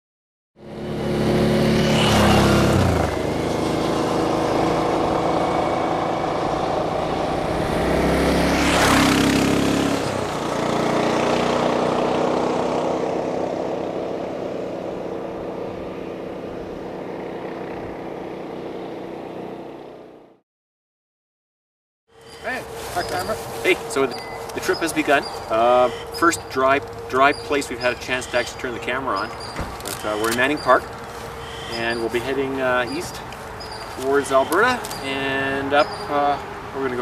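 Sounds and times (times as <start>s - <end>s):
motorcycles passing by: 0.6s - 20.3s, 22.2s - 37.0s.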